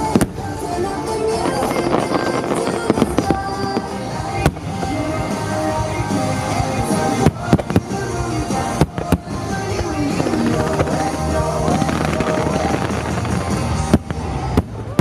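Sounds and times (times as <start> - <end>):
fireworks bangs and crackles: 0.0 - 15.0
music from loudspeakers: 0.0 - 15.0.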